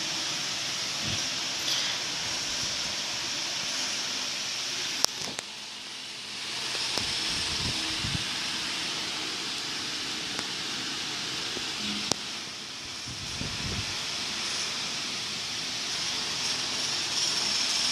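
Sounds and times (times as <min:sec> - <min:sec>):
steady hiss: 0:00.0 - 0:17.9.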